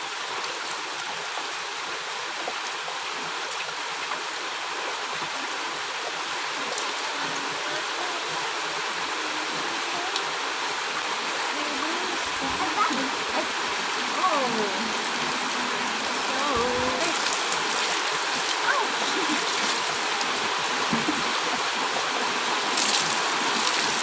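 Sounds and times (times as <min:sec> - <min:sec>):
heavy rain: 0:00.0 - 0:24.0
sharp drips and splashes: 0:00.0 - 0:24.0.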